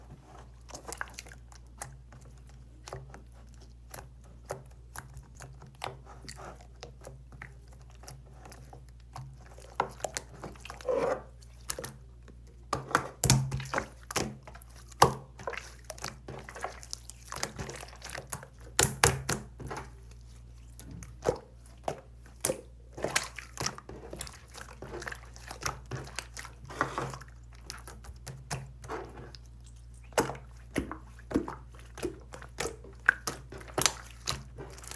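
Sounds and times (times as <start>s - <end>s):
hands squishing soft slime: 0.0s - 34.9s.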